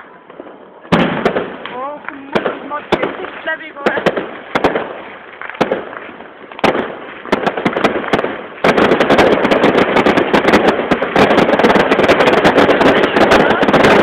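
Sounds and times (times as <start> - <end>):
firework bangs: 0.0 - 14.0
firework crackle of rapid pops: 0.0 - 14.0.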